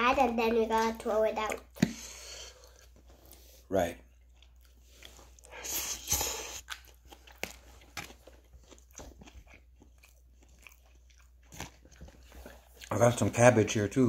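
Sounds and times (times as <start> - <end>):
chewing noodles: 0.8 - 13.3.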